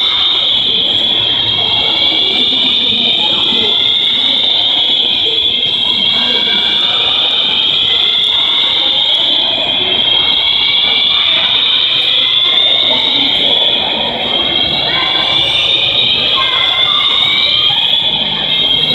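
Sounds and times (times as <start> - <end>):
fire alarm siren wailing: 0.0 - 18.9.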